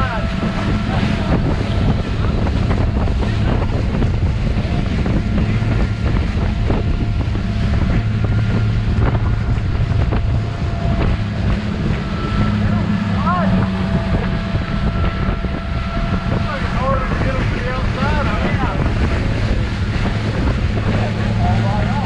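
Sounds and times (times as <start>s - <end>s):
motorboat engine drone: 0.0s - 22.0s
rushing water: 0.0s - 22.0s
wind buffeting microphone: 0.0s - 22.0s.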